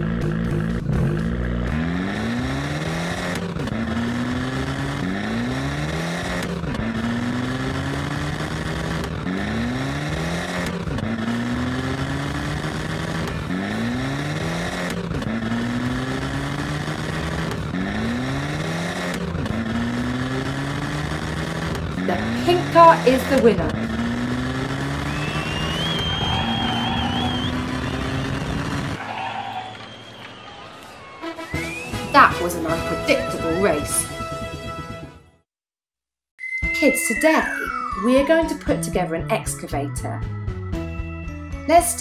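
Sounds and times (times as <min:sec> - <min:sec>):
racing car engine revving: 0:00.0 - 0:35.3.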